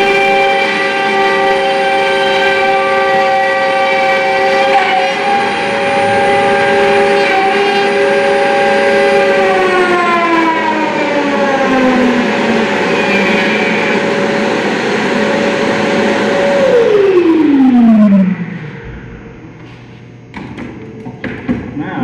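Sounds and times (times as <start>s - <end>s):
router whining cutting wood: 0.0s - 19.4s.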